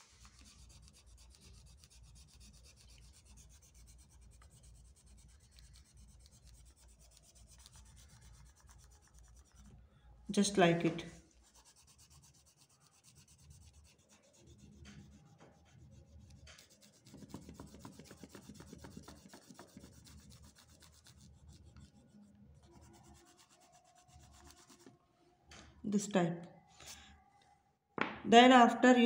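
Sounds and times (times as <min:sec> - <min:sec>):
oil pastel rubbing on paper: 0:00.0 - 0:09.7, 0:11.2 - 0:24.9.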